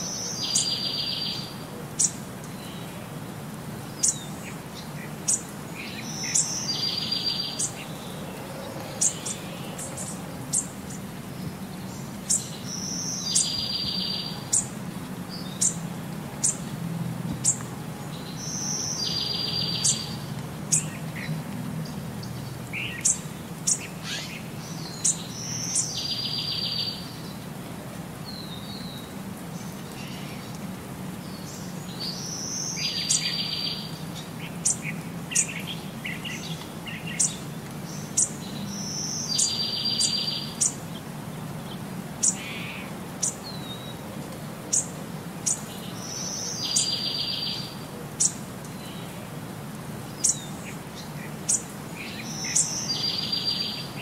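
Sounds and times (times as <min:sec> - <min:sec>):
birds chirping: 0:00.0 - 0:27.6, 0:28.2 - 0:49.3, 0:49.9 - 0:54.0.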